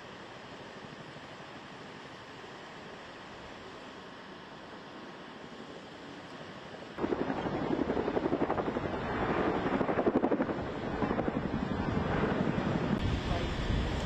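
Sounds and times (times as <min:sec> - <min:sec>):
helicopter rotor chopping: 0:00.6 - 0:14.0.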